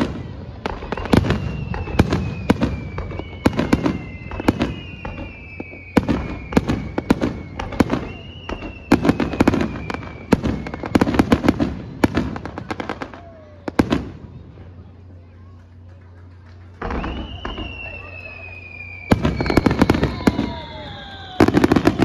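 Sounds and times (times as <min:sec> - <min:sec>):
fireworks whistles sliding down: 0:00.0 - 0:13.3, 0:16.8 - 0:22.0
fireworks bangs and crackles: 0:00.0 - 0:22.0.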